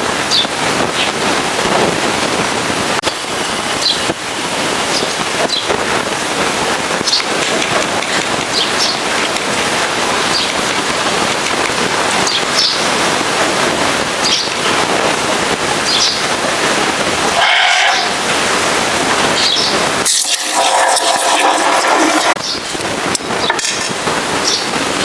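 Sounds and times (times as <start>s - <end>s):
pressure washer spraying water: 0.0s - 25.0s.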